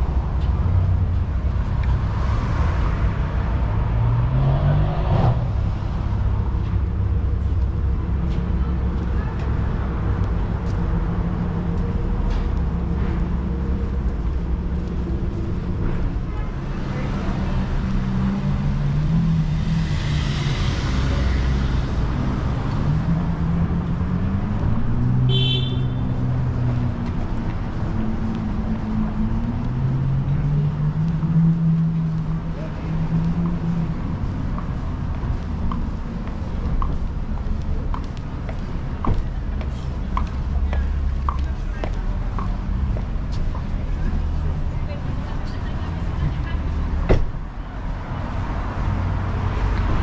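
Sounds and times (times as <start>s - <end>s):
car engines running: 0.0s - 50.0s
traffic rumble: 0.0s - 50.0s.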